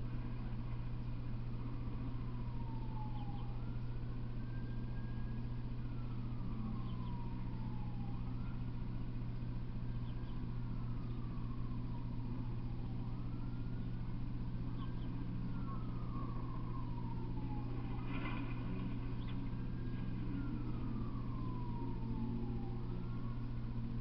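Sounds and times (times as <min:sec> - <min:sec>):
distant siren wailing: 0:00.0 - 0:24.0
steady low hum: 0:00.0 - 0:24.0.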